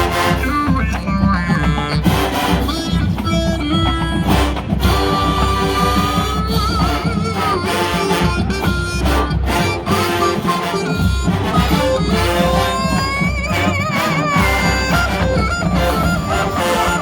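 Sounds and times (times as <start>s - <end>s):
marching band music: 0.0s - 17.0s.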